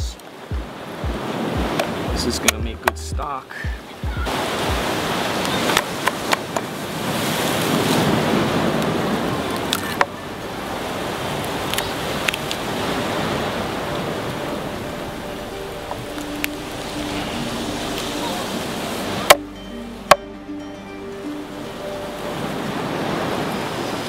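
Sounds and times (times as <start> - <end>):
surf rushing against rocks: 0.0 - 19.4, 21.4 - 24.0.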